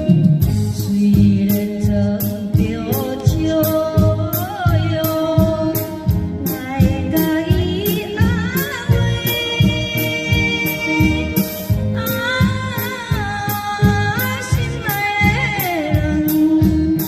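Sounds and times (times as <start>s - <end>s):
band playing a song: 0.0s - 17.0s
person singing: 0.0s - 17.0s.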